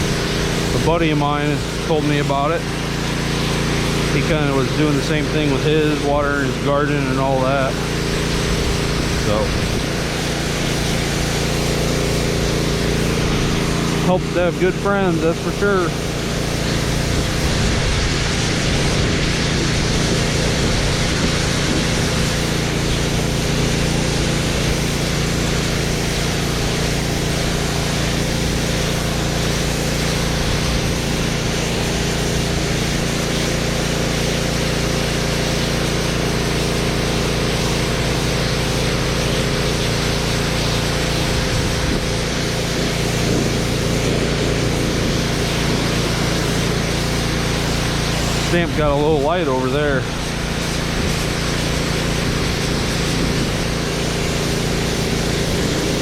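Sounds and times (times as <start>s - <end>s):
pressure washer engine running: 0.0s - 56.0s
water spray hissing on concrete: 0.0s - 56.0s.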